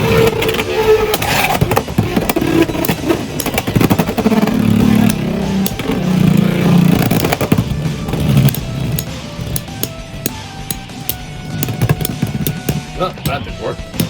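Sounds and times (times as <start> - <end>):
spinning tops whirring: 0.0 - 14.0.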